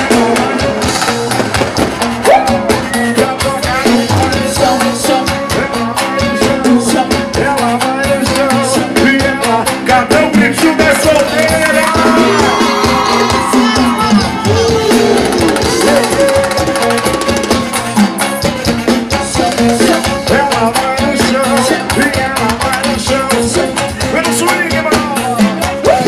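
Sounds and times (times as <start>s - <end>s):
fast percussion: 0.0s - 26.0s
live band dance music: 0.0s - 26.0s.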